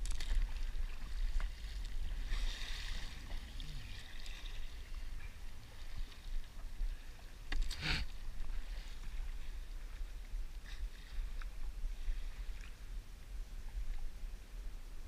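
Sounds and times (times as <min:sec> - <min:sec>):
paddle splashing in water: 0:00.0 - 0:12.9
wind rumble on microphone: 0:00.0 - 0:15.0.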